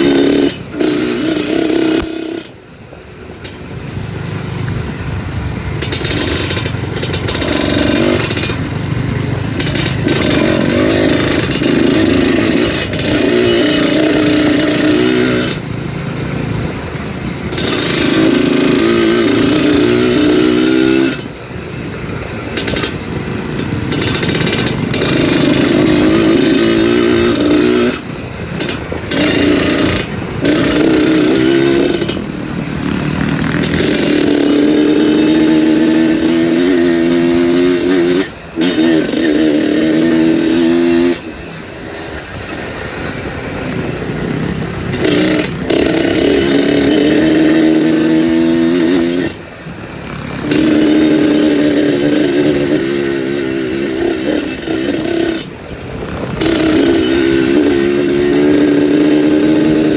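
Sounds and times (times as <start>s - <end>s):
two-stroke motorcycle engine: 0.0s - 59.9s.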